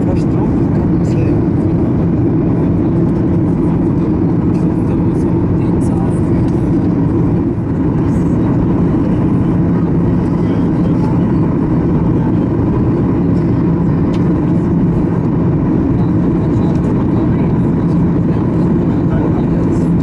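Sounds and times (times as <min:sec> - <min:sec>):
airplane cabin noise: 0:00.0 - 0:20.0
steady low hum: 0:00.0 - 0:20.0.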